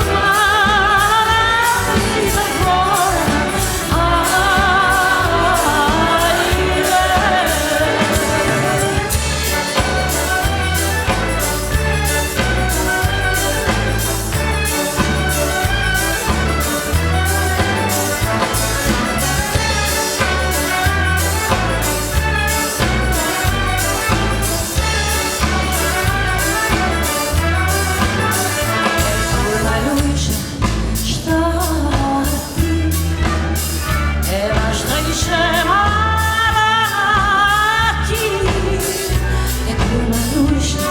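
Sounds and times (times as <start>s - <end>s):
orchestral accompaniment: 0.0s - 40.9s.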